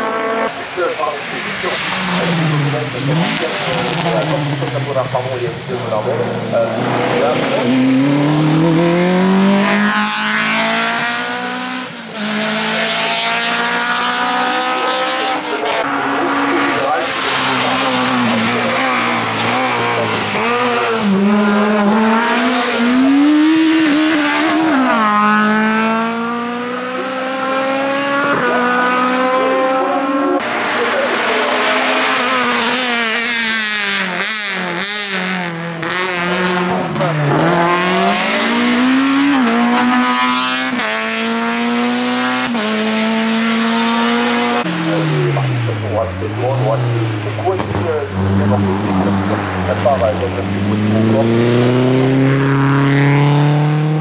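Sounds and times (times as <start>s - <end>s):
racing car engines at full throttle: 0.0s - 54.0s.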